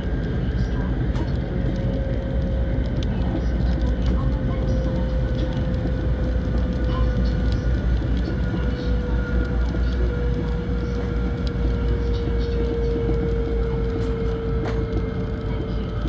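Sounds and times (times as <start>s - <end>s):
train cabin rumble and whine: 0.0s - 16.0s.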